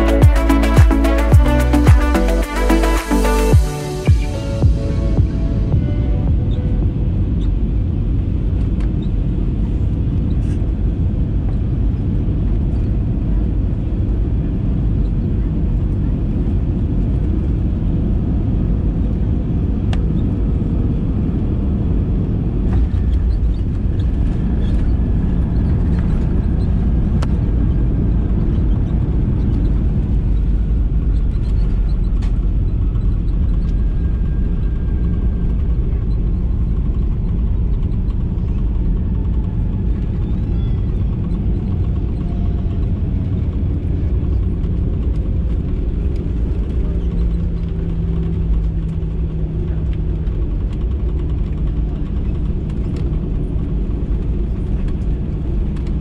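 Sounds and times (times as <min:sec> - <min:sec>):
wheels rumbling on runway: 0:00.0 - 0:56.0.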